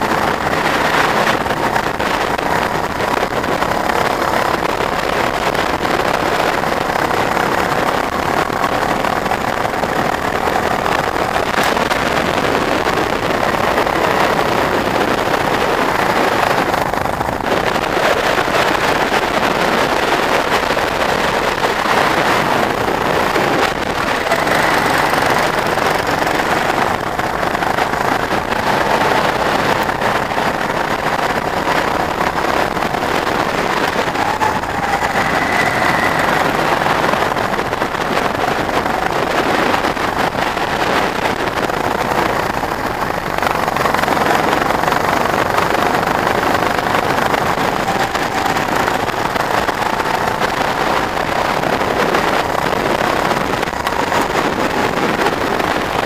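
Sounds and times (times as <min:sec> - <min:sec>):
go-kart engine: 0:00.0 - 0:56.0
wind noise on microphone: 0:00.0 - 0:56.0.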